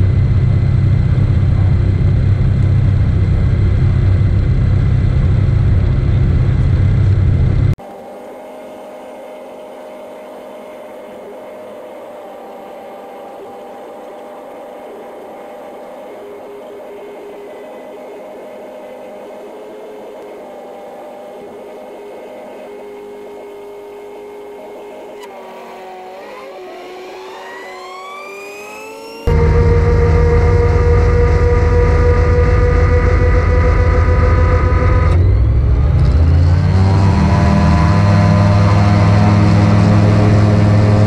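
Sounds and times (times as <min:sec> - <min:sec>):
gyroplane engine running: 0:00.0 - 0:41.0.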